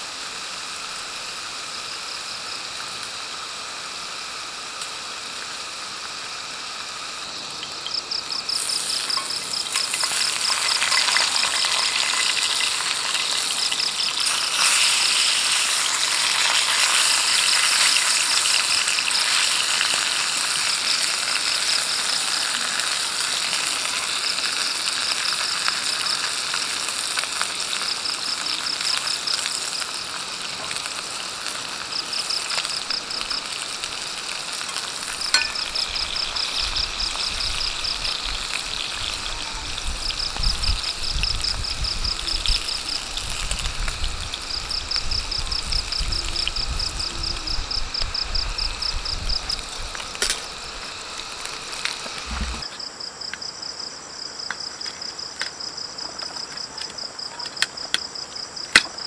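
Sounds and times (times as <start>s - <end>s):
meat sizzling in a skillet: 0.0s - 52.7s
insect chirps: 0.1s - 59.0s.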